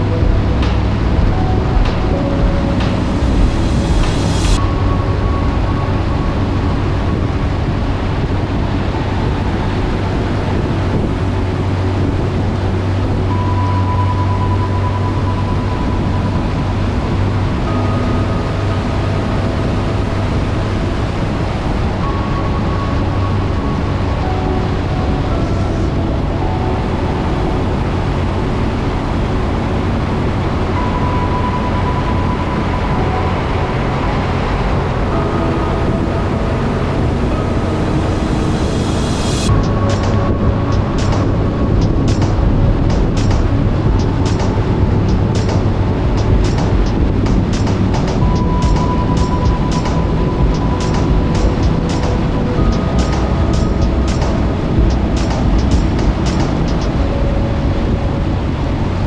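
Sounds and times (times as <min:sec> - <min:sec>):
faint high whine: 0:00.0 - 0:59.0
vehicle driving through tunnel: 0:00.0 - 0:59.0.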